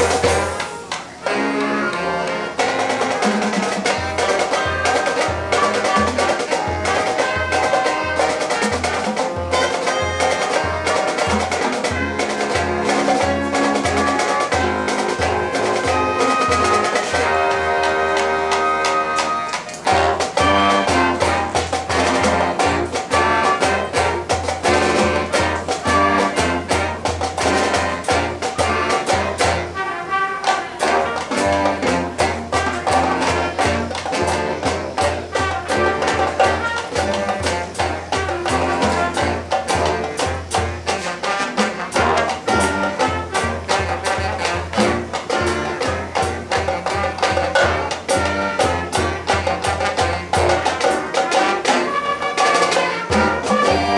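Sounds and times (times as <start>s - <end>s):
brass chords: 0.0s - 53.9s
drumline beat: 0.0s - 53.9s.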